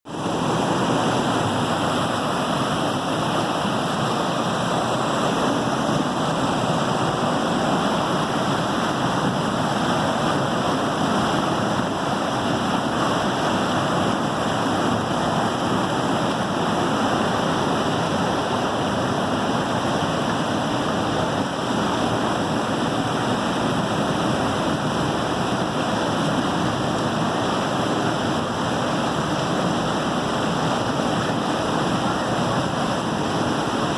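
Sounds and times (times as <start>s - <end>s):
water splashing at a waterwheel: 0.1s - 33.9s.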